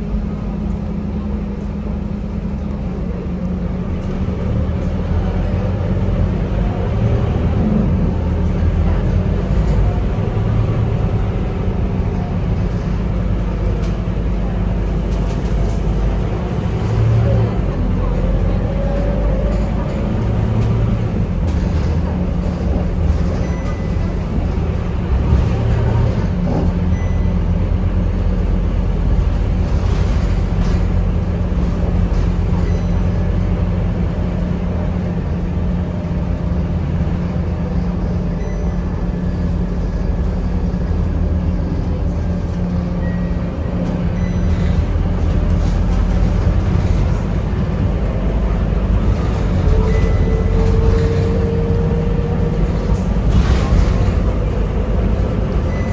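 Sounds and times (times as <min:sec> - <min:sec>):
bus diesel engine drone: 0:00.0 - 0:55.9
bus whine: 0:00.0 - 0:55.9.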